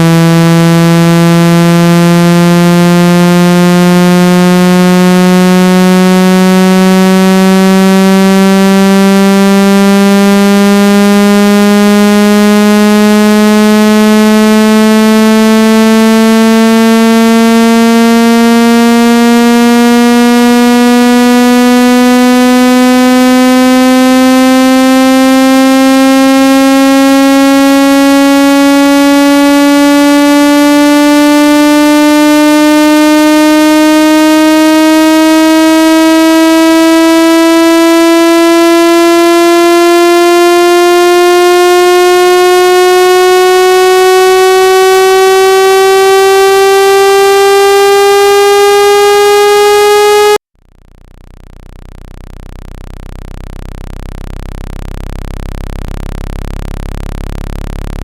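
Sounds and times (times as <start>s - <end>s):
synthetic buzzing tone rising in pitch: 0.0s - 58.0s.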